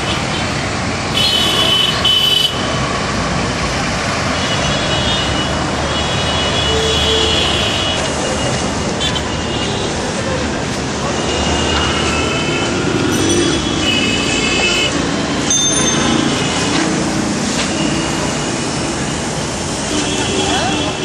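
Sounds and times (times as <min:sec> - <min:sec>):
street traffic: 0:00.0 - 0:21.0.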